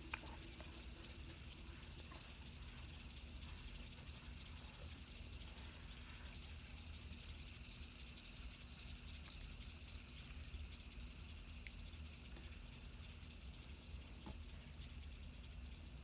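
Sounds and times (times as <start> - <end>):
fidget spinner whirring: 0.0 - 16.0.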